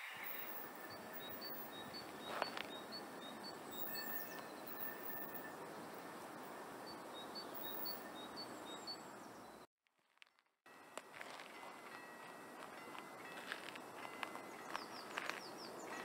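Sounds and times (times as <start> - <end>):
faint outdoor background noise: 0.0 - 9.7, 10.7 - 16.0.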